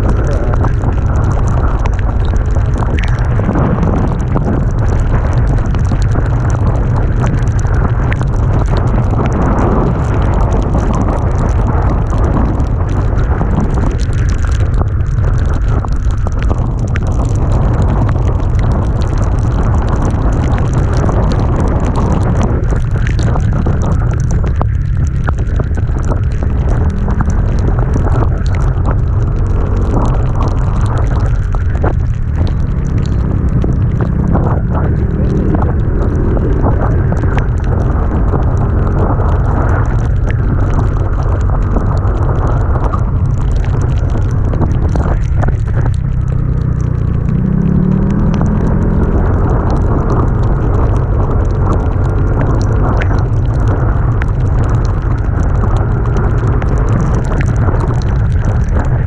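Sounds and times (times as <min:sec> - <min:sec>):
short crackles: 0:00.0 - 0:59.0
wind noise on microphone: 0:00.0 - 0:59.0.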